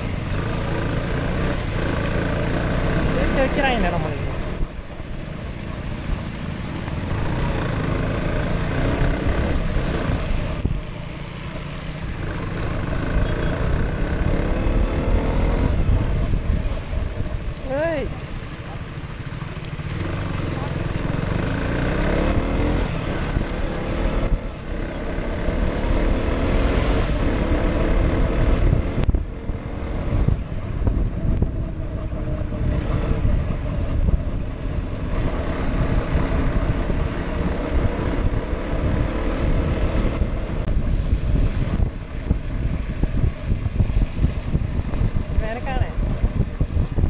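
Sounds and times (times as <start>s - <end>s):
motorcycle engine revving: 0.0s - 47.0s
wind noise on microphone: 0.0s - 47.0s.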